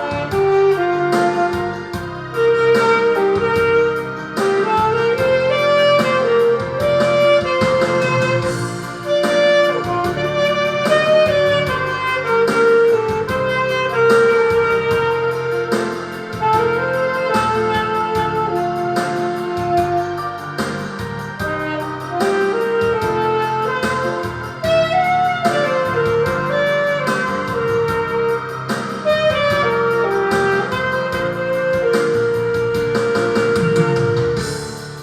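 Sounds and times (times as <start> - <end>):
alto saxophone ballad melody: 0.0 - 35.0
karaoke backing track drums strings: 0.0 - 35.0.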